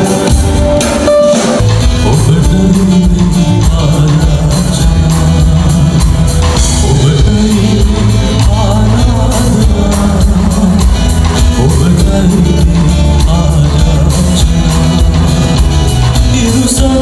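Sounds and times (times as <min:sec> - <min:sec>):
live band playing: 0:00.0 - 0:17.0
man singing: 0:00.0 - 0:17.0.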